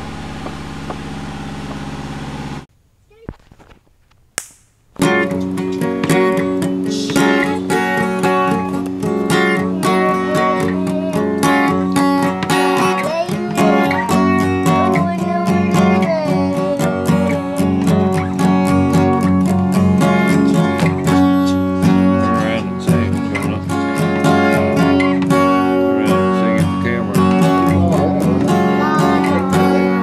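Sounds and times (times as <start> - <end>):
acoustic guitar strumming: 0.0 - 2.7, 4.9 - 30.0.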